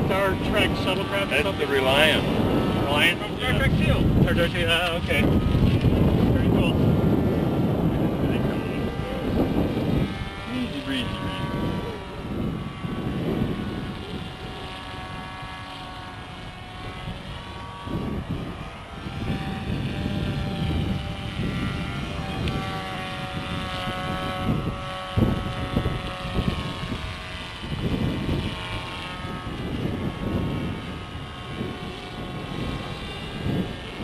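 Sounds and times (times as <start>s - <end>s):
model airplane motor whining: 0.0s - 34.0s
wind rumbling on microphone: 0.0s - 34.0s.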